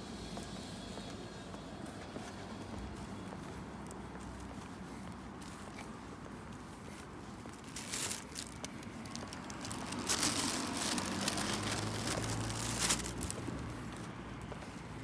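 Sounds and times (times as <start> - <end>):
footsteps on concrete: 0.0 - 15.0
rustling and scuffing: 0.1 - 15.0.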